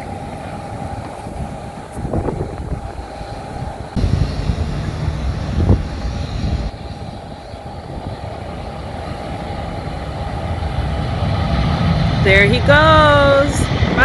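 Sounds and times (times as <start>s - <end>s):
jet engines rumble and whine: 0.0s - 14.0s
wind buffeting microphone: 0.0s - 14.0s.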